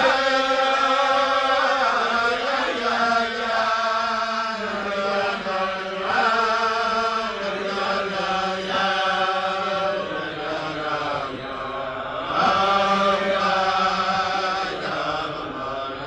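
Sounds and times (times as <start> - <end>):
men singing in unison: 0.0 - 16.0.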